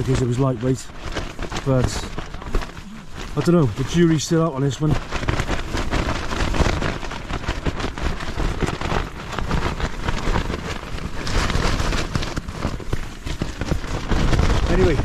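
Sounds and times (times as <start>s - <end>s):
rain on tent fabric: 0.0s - 15.0s.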